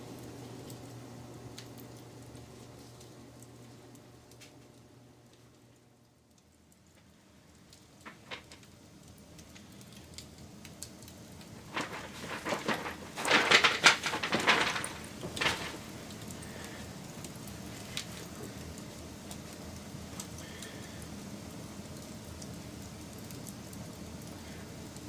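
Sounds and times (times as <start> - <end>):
campfire crackling and popping: 0.2 - 25.0.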